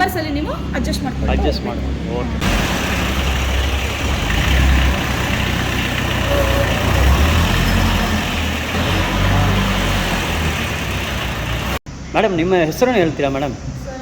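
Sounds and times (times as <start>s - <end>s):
vehicle engine rumbling: 0.0s - 12.1s
outdoor noise: 0.0s - 14.0s.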